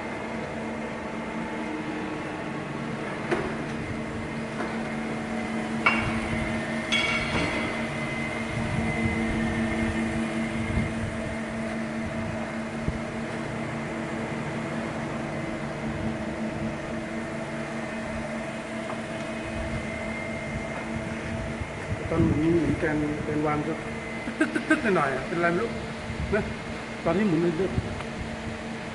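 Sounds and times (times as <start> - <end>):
high machine whine: 0.0 - 28.9
machine electric hum: 0.0 - 28.9.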